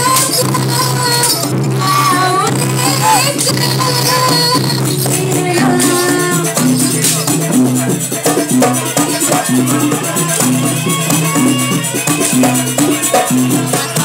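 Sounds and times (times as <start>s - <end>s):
drum strokes: 0.0s - 14.0s
gamelan music: 0.0s - 14.0s
jingling percussion: 0.0s - 14.0s.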